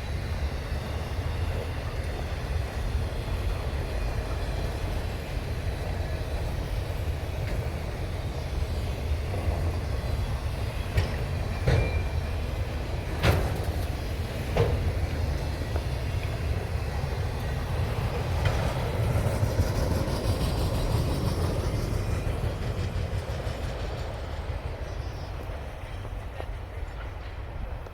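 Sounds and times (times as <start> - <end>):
freight train cars rumbling: 0.0 - 27.9.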